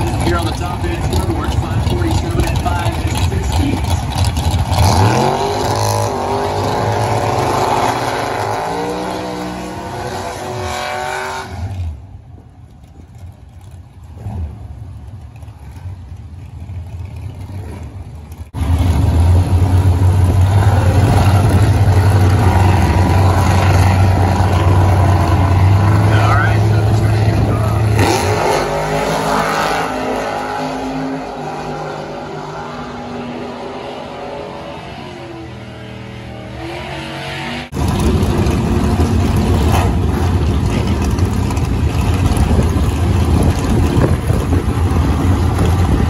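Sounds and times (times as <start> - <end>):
low engine rumble: 0.0 - 8.5, 11.6 - 34.2, 37.7 - 46.0
racing engines revving hard: 0.0 - 11.9, 18.6 - 46.0.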